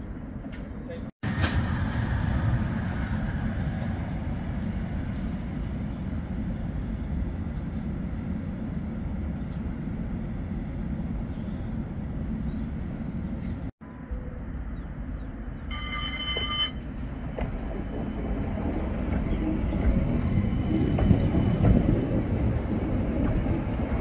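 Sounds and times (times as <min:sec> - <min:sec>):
low rumble of trams: 0:00.0 - 0:24.0.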